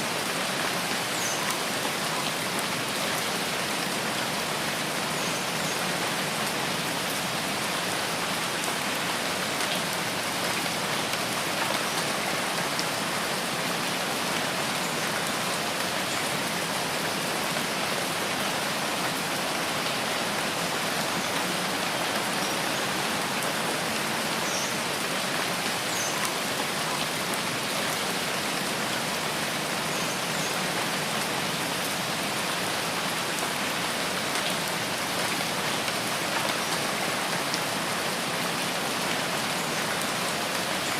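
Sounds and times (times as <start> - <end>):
rain falling in a forest: 0.0 - 40.9.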